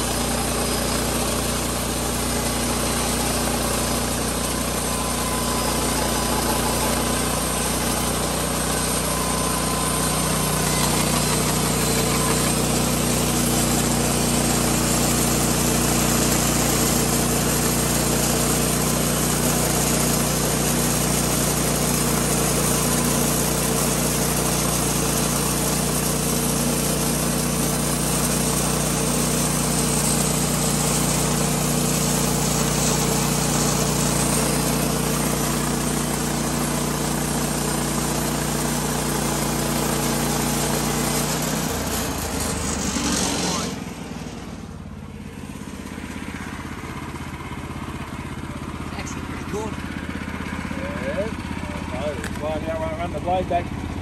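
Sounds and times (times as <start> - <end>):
sawmill blade cutting wood: 0.0 - 54.0
sawmill engine running: 0.0 - 54.0.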